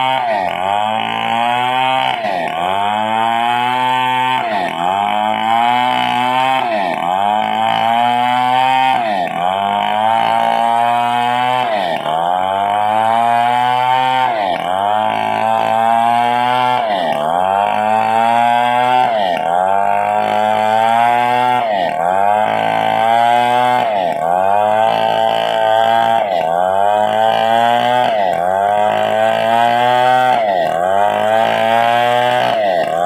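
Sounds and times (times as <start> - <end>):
motorised saw cutting wood: 0.0 - 33.0.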